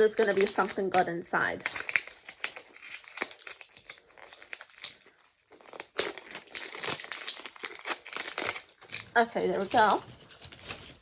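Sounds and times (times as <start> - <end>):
paper wrapping crinkling: 0.0 - 11.0.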